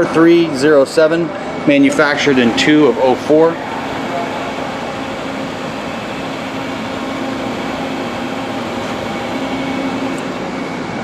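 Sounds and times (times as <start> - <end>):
machinery humming and whirring: 0.0 - 11.0.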